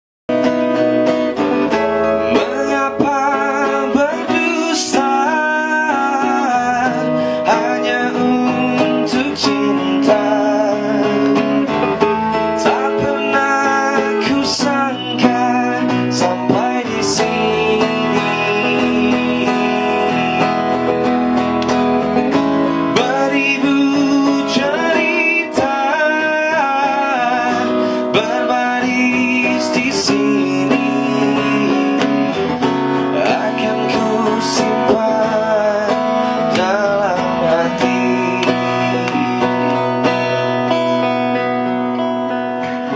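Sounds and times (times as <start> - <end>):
acoustic guitar: 0.3 - 42.9
man singing: 1.7 - 21.5, 22.7 - 41.7.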